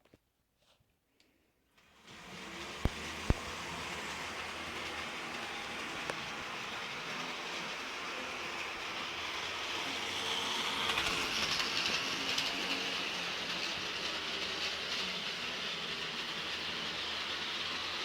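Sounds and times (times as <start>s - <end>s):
model train whirring: 1.8s - 18.0s.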